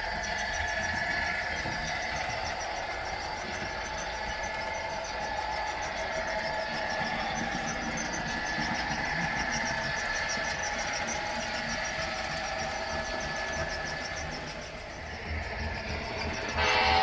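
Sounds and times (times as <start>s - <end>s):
model train humming: 0.0s - 17.0s
thin high whine: 0.0s - 17.0s.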